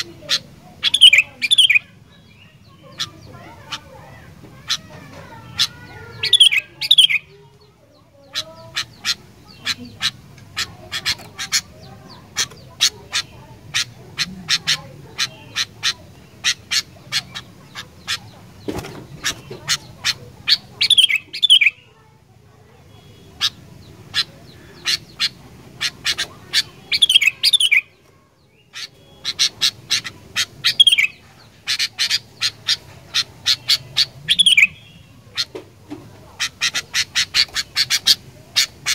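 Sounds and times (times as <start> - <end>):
bulbul calling: 0.0 - 7.4, 8.2 - 21.9, 22.9 - 38.9.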